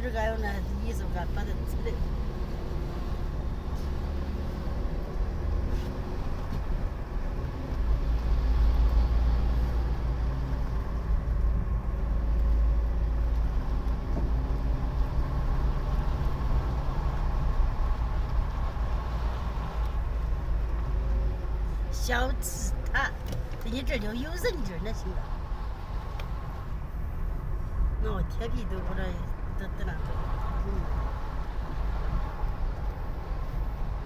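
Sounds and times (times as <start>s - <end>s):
car engine rumble: 0.0s - 34.0s
road noise: 0.0s - 34.0s.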